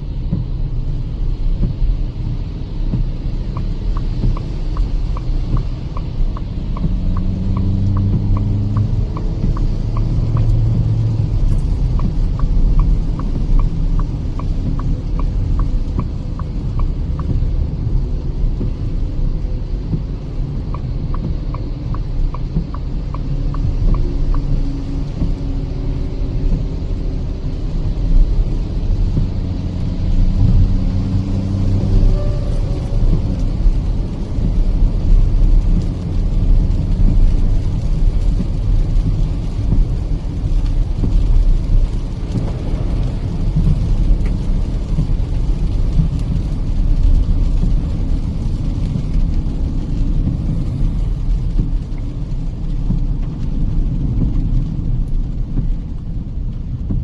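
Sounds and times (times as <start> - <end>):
road and engine rumble in car: 0.0 - 57.0
turn indicator ticking: 0.1 - 57.0.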